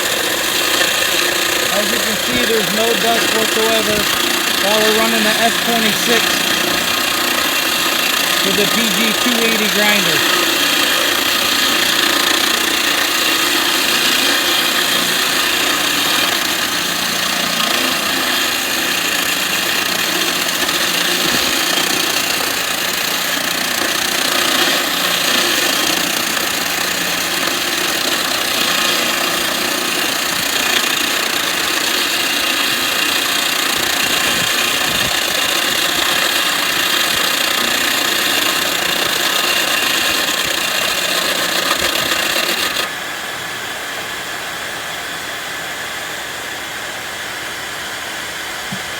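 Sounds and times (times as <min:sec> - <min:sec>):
floor grinder grinding: 0:00.0 - 0:43.2
dust extractor running: 0:00.0 - 0:48.9.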